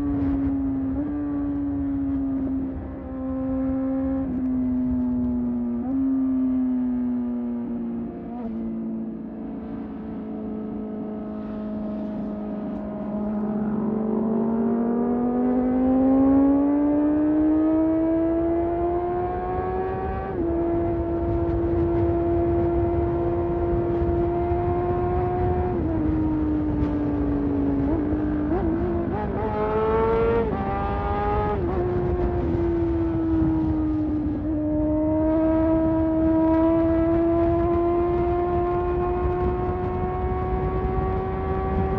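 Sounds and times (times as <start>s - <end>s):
motorcycle engine accelerating: 0.0s - 41.9s
wind rumble on microphone: 0.0s - 41.9s.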